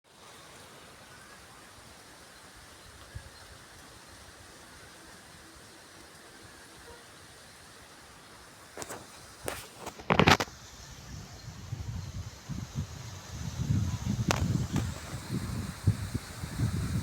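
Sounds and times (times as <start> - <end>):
steady low hiss: 0.1 - 17.0.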